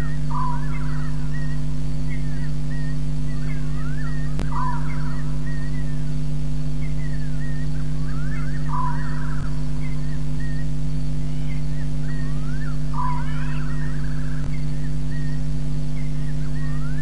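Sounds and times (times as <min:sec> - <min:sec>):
animal chirps and whistled calls: 0:00.0 - 0:06.2, 0:06.8 - 0:17.0
steady low hum: 0:00.0 - 0:17.0.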